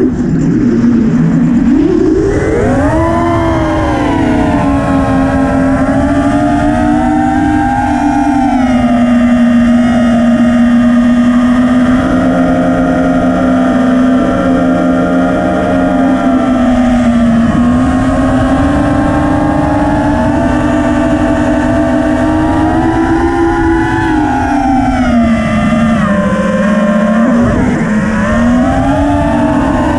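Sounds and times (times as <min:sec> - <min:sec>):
drone motors whining: 0:00.0 - 0:29.9
rushing noise: 0:00.0 - 0:29.9.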